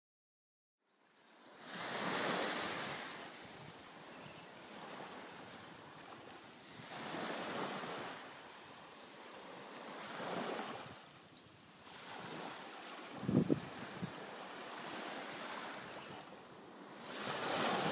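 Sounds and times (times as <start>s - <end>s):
ocean waves breaking: 1.4s - 17.9s.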